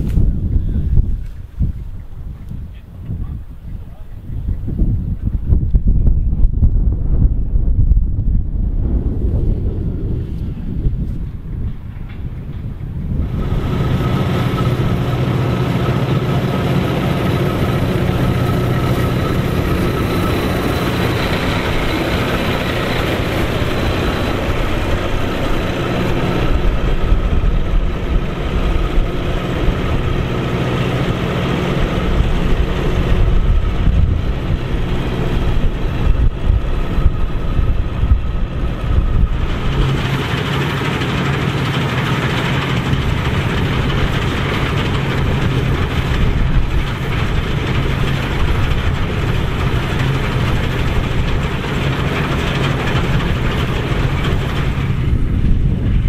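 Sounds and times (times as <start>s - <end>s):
combine harvester engine: 8.3s - 56.0s
threshing machinery noise: 8.5s - 56.0s.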